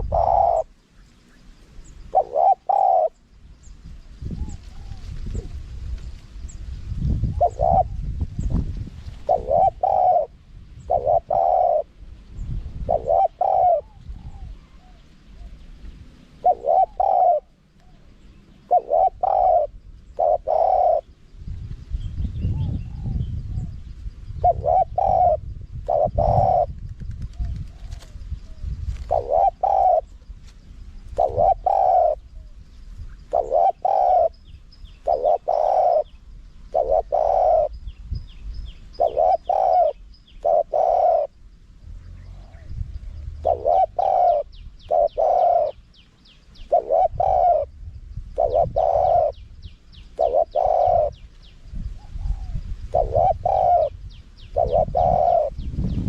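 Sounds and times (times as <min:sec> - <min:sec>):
dove cooing: 0:00.0 - 0:03.3, 0:04.3 - 0:05.6, 0:07.2 - 0:12.0, 0:12.7 - 0:21.2, 0:22.4 - 0:56.0.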